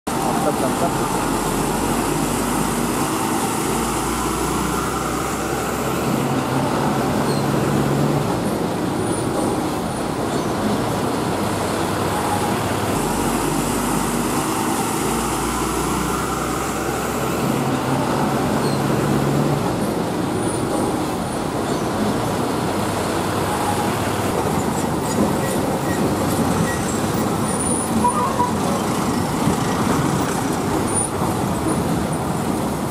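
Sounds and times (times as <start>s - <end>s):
tyres on road: 0.0s - 32.9s
truck engines running: 0.1s - 32.9s.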